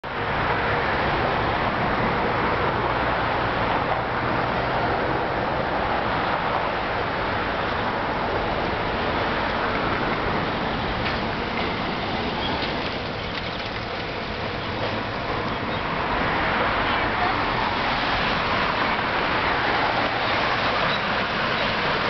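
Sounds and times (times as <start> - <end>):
steady rushing outdoor noise: 0.0 - 22.0.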